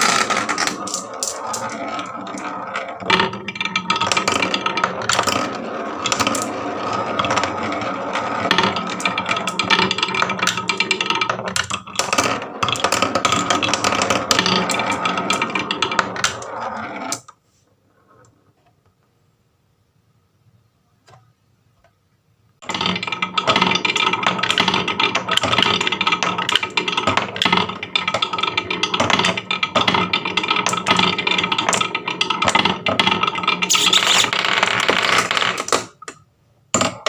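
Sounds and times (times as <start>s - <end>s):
marbles rolling down wooden track: 0.0s - 17.3s, 22.6s - 37.0s.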